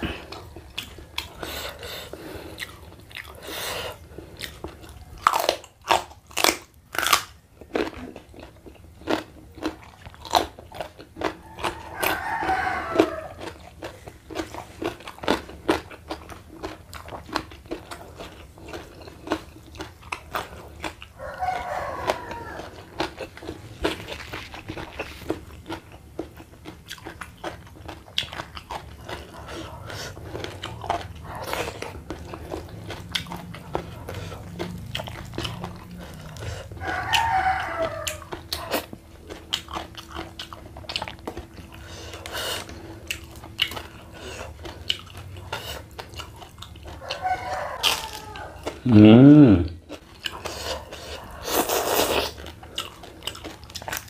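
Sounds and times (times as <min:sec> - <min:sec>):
crunchy biting and chewing: 0:00.0 - 0:54.0.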